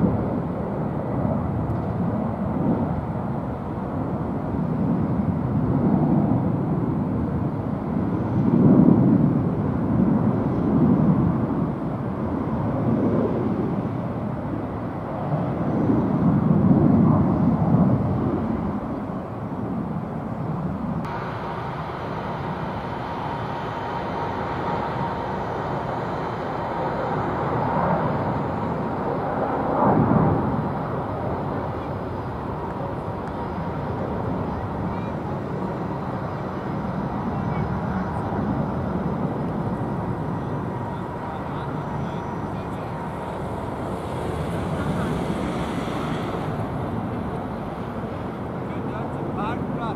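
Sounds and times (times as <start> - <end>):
faint steady whine: 0.0 - 49.9
jet engine rumble: 0.0 - 49.9
jet engines rumbling: 0.0 - 49.9.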